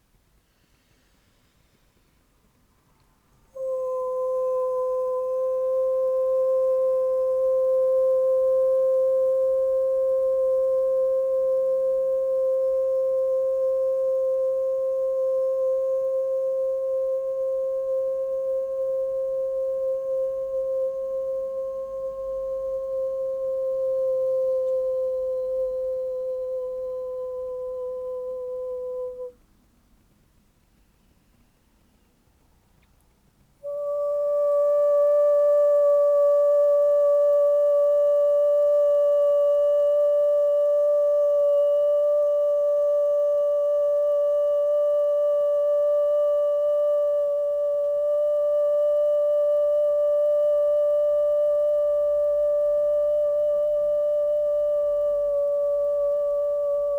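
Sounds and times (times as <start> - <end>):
steady pure tone: 3.2 - 29.4, 33.6 - 56.9.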